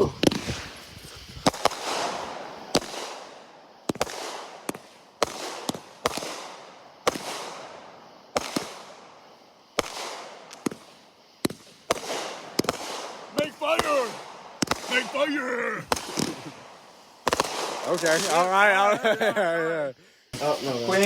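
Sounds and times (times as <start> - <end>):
firework bangs with hiss: 0.0 - 19.3, 20.3 - 21.0.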